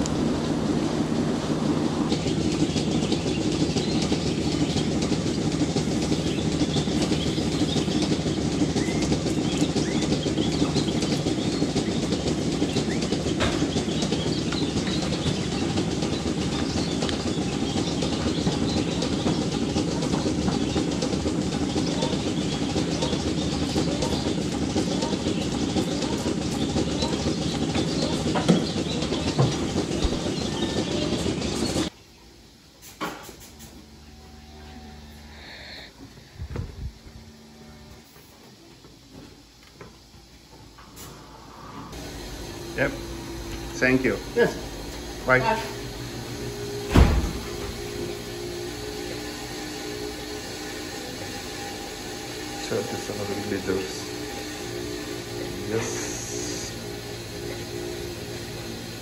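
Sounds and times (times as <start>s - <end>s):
machinery clattering and rattling: 0.0s - 31.9s, 41.8s - 59.0s.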